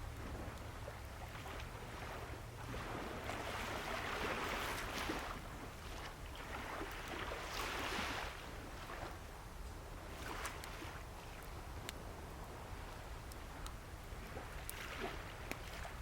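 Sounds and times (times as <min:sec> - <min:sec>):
bonfire crackling: 0:00.0 - 0:16.0
sea waves washing ashore: 0:00.0 - 0:16.0.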